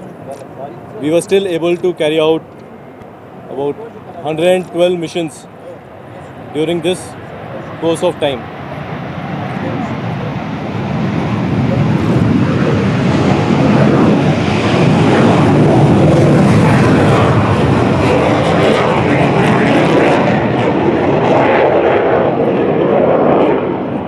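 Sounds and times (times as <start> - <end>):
loud aircraft engine rushing: 0.0 - 24.0.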